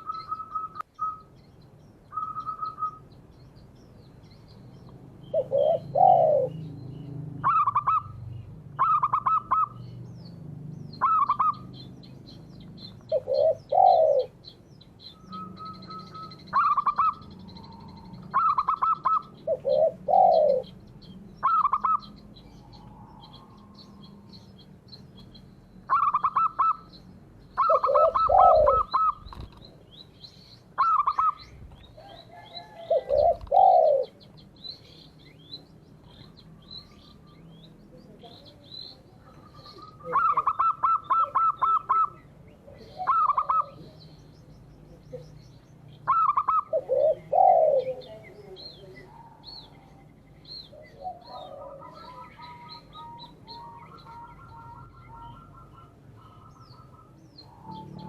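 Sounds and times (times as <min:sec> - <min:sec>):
doves cooing: 0:05.1 - 0:10.0, 0:11.0 - 0:24.6, 0:25.8 - 0:30.0, 0:30.7 - 0:37.6, 0:38.2 - 0:44.2, 0:46.0 - 0:58.0.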